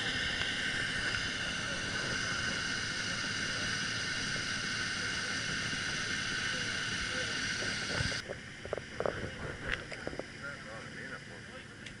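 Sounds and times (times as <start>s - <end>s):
car engine idling: 0.0s - 12.0s
constant high whine: 0.0s - 12.0s.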